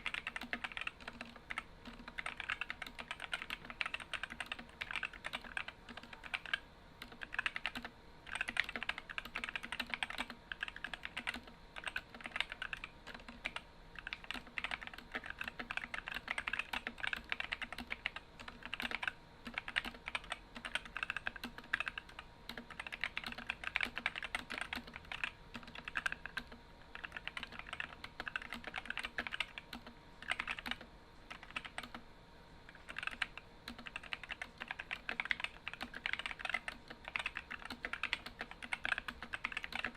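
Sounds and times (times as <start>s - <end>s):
mechanical keyboard typing: 0.0s - 32.0s, 32.7s - 39.9s.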